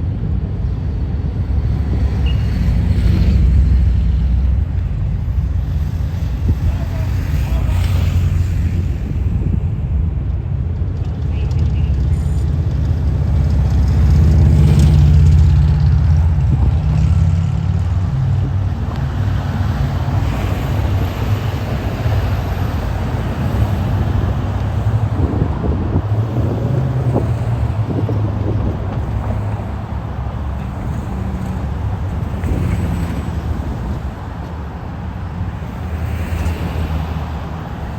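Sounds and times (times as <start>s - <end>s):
vehicles passing: 0.0s - 37.9s.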